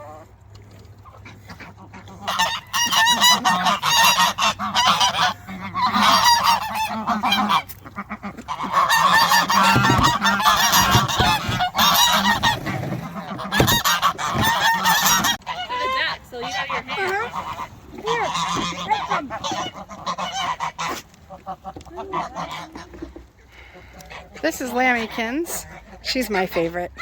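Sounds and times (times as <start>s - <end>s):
farm birds honking: 1.0s - 27.0s.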